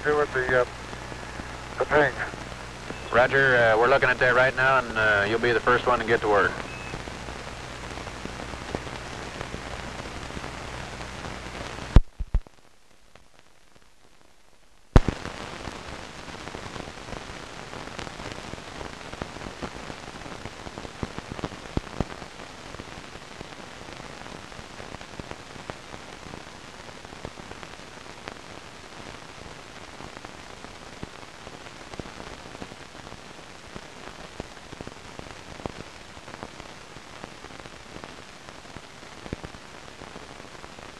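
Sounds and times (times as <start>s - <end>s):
radio hiss with crackles: 0.0s - 40.9s.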